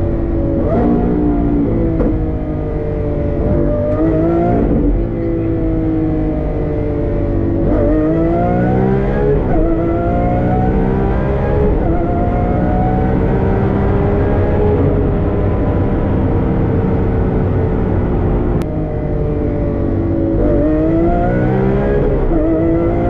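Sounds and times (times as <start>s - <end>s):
car engine accelerating with upshifts: 0.0s - 23.0s.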